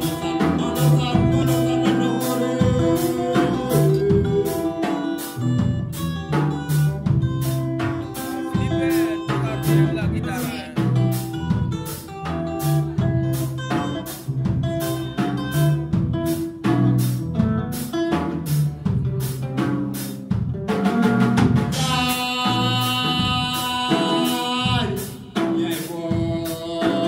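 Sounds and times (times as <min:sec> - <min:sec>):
electric bass line: 0:00.0 - 0:25.0
drum kit beat: 0:00.0 - 0:27.0
guitar: 0:00.0 - 0:27.0.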